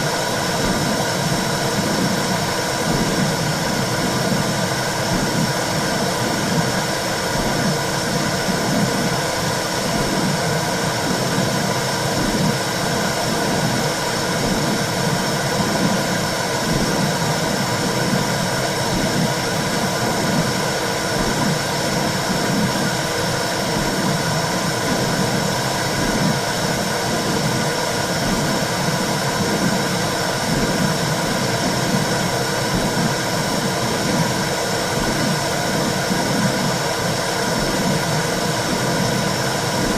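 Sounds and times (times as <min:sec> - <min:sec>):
low regular pulsing: 0:00.0 - 0:39.9
steady rushing noise: 0:00.0 - 0:39.9.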